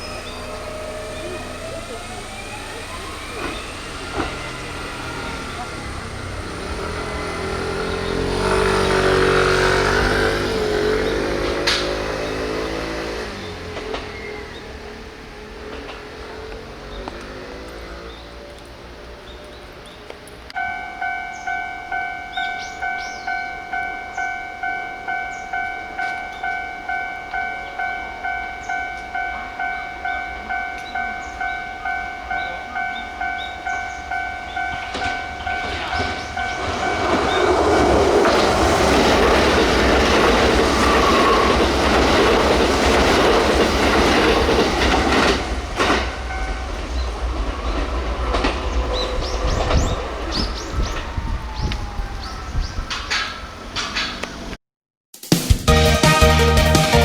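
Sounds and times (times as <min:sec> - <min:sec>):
electric train passing: 0:00.0 - 0:54.6
level crossing warning bell: 0:00.0 - 0:54.6.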